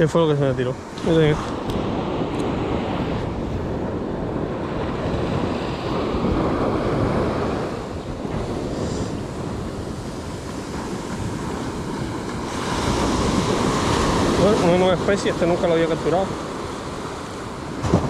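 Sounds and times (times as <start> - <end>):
surf washing onto beach: 0.0 - 18.0
wind buffeting microphone: 0.0 - 18.0.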